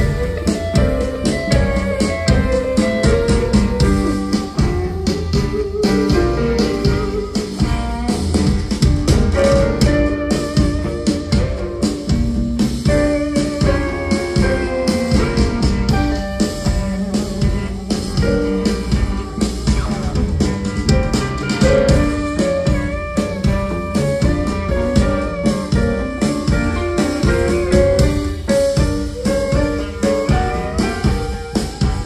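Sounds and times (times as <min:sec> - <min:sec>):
drum kit beat: 0:00.0 - 0:32.0
electric guitar riff: 0:00.0 - 0:32.0
piano: 0:00.0 - 0:32.0.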